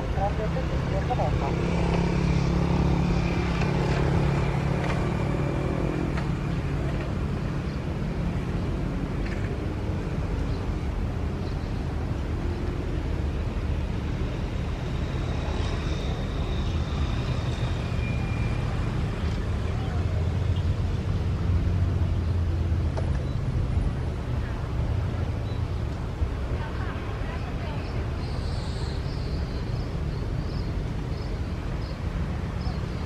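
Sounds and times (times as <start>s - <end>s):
faint high engine whine: 0.0s - 32.8s.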